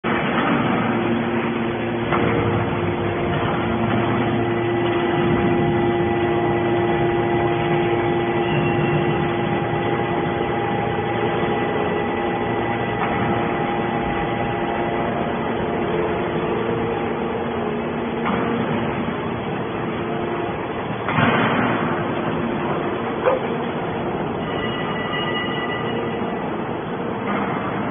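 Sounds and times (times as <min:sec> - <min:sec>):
high whine: 0:00.0 - 0:27.9
hydraulic machine drone: 0:00.1 - 0:27.9.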